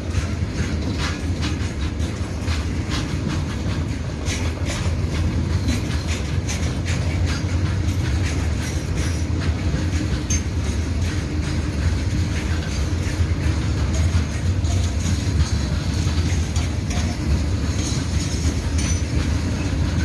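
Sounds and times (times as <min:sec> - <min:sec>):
freight wagons rumbling: 0:00.0 - 0:20.0
wheels clacking over rail joints: 0:00.0 - 0:20.0.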